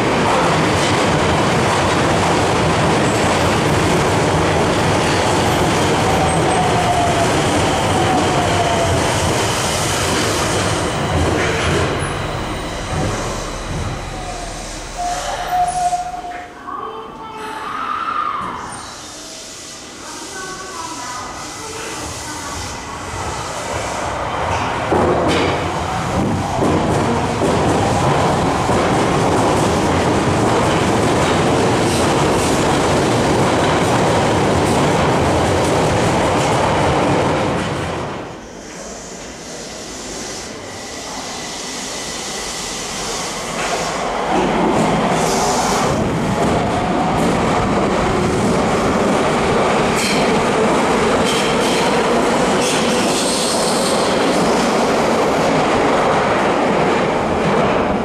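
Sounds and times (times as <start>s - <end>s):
train approaching with motor whine: 0.0s - 16.7s, 18.1s - 58.0s
train running along platform: 0.0s - 58.0s.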